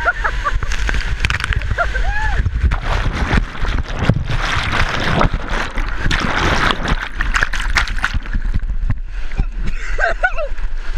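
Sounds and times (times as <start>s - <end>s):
whitewater rushing underwater: 0.0s - 10.9s.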